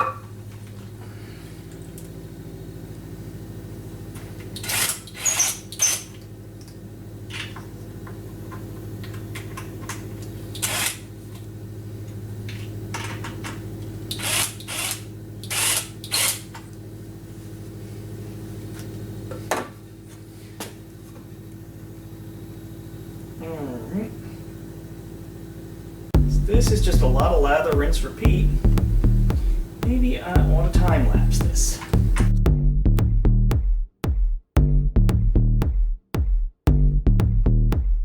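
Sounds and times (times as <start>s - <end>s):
low motor hum: 0.0s - 38.0s.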